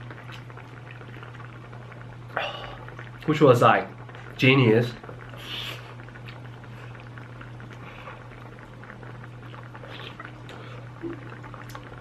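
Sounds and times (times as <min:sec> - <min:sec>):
stew bubbling in a pot: 0:00.0 - 0:12.0.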